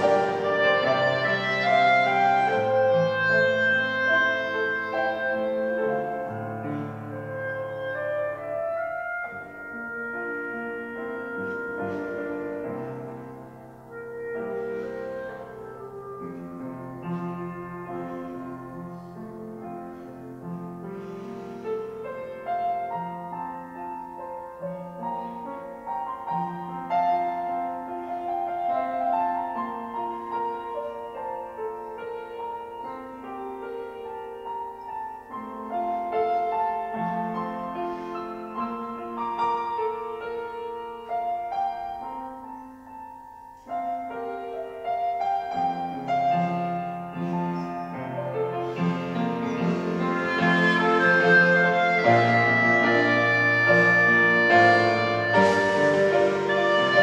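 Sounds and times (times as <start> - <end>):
clarinet: 0.0 - 57.0
piano: 0.0 - 57.0.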